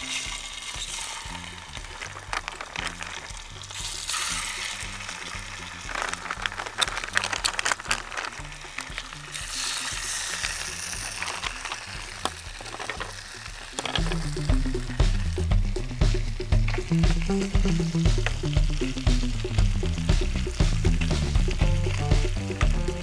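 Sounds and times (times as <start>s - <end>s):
background music with bass line: 0.0s - 23.0s
chicken sizzling in hot fat: 0.0s - 23.0s.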